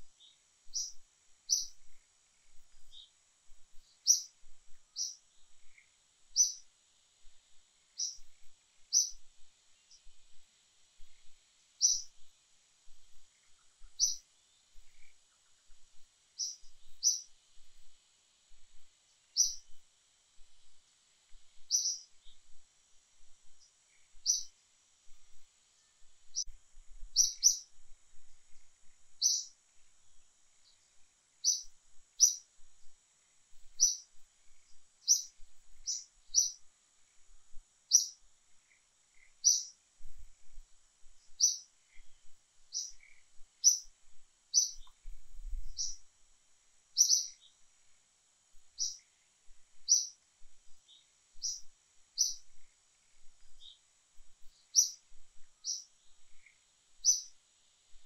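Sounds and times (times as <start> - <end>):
small bird chirping: 0.0 - 46.1, 46.9 - 58.0
faint high whine: 0.0 - 58.0.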